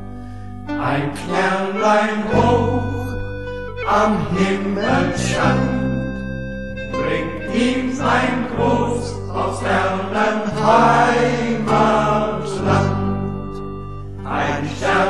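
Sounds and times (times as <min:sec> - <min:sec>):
instrumental backing with bass: 0:00.0 - 0:15.0
choir singing folk song: 0:00.7 - 0:15.0.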